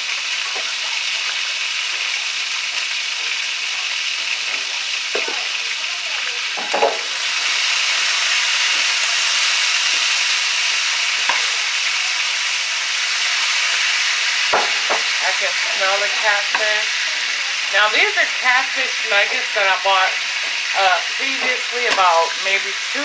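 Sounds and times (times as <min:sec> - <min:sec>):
fish sizzling in butter: 0:00.0 - 0:23.0.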